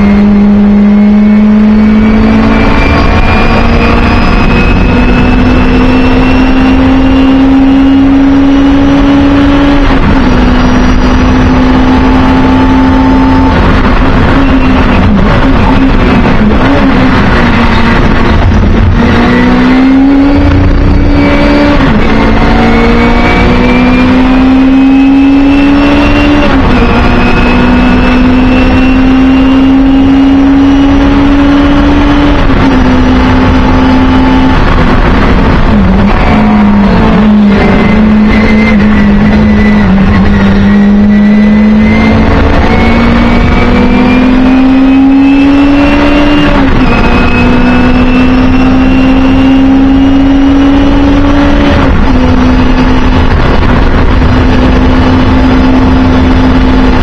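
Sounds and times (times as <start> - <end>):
race car engine pulling hard: 0.0 - 57.0.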